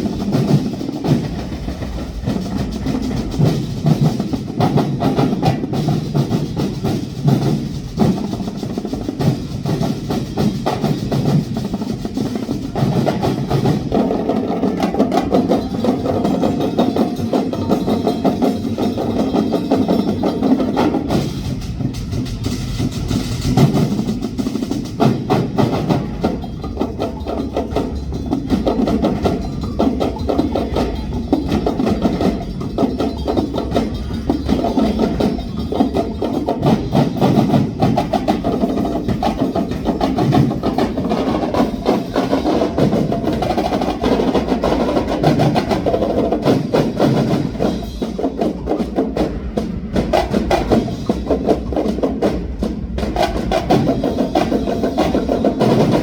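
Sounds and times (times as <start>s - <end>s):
drum ensemble playing fast beat: 0.0s - 56.0s.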